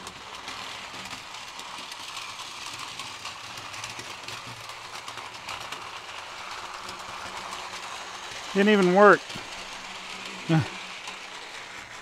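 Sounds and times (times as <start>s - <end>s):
toy train motor whir: 0.0s - 12.0s
wheels clicking on track: 0.0s - 12.0s.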